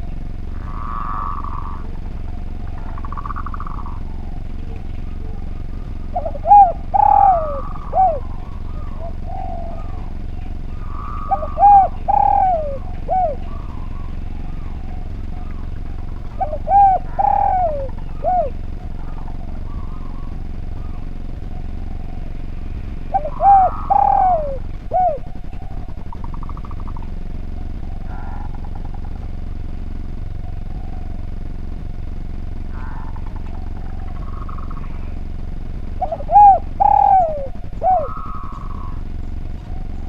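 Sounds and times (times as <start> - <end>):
dove cooing: 0.0 - 40.0
steady low hum: 0.0 - 40.0.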